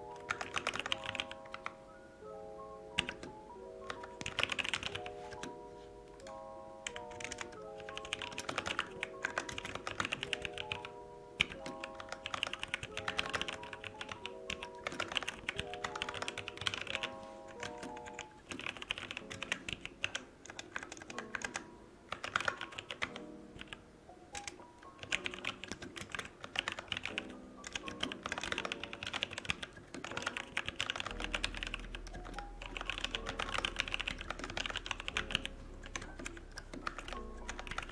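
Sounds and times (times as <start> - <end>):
rapid keyboard typing: 0.0 - 1.9, 2.9 - 5.6, 6.2 - 37.9
background music: 0.0 - 37.9.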